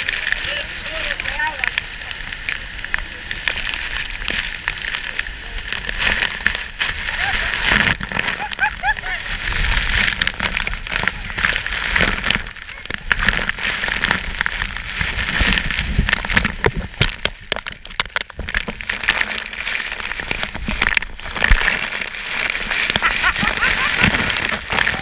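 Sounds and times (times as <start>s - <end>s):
water drops hitting microphone: 0.0s - 25.0s
waterfall rushing: 0.0s - 25.0s.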